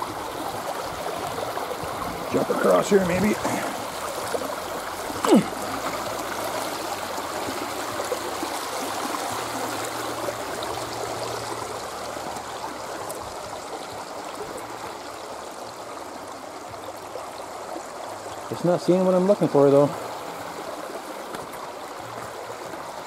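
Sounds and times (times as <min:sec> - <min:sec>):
river water over stones: 0:00.0 - 0:23.0.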